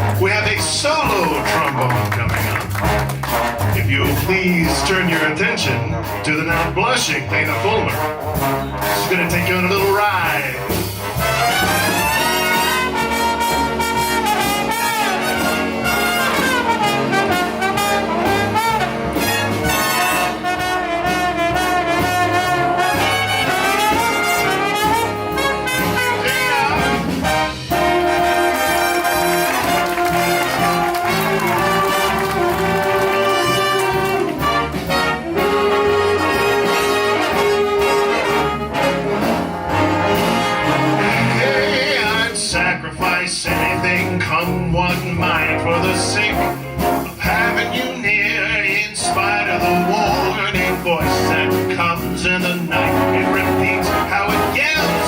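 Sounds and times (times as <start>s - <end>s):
trombone solo: 0.0s - 42.7s, 43.4s - 55.0s
big band playing swing: 0.0s - 55.0s.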